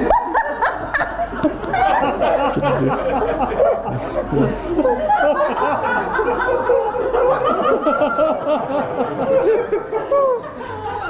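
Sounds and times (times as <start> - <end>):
audience laughing: 0.0 - 11.0
overlapping chatter: 0.0 - 11.0.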